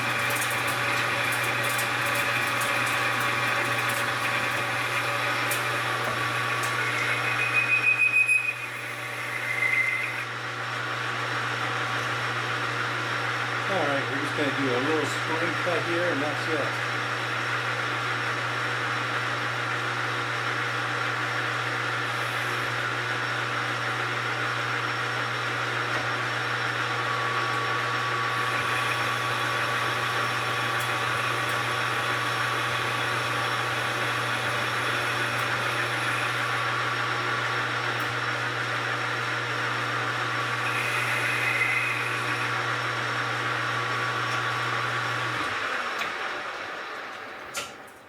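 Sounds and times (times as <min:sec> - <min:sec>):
metal lathe motor hum: 0:00.0 - 0:47.9.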